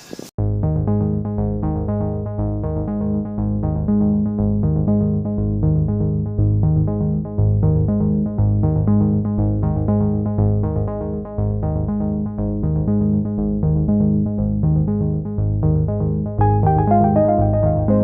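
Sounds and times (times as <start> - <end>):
synthesizer and keyboard music: 0.5 - 18.0.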